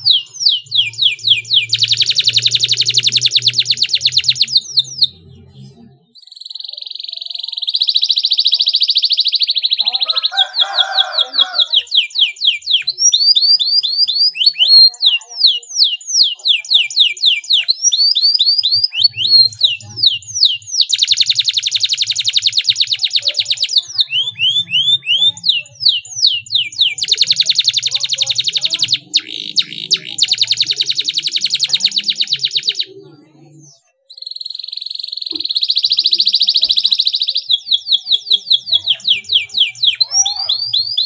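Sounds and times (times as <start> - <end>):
canary singing with trills: 0.0 - 41.0.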